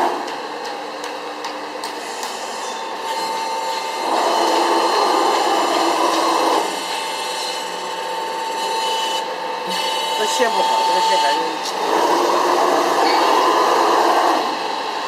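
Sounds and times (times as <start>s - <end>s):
workshop machinery whining: 0.0s - 15.0s.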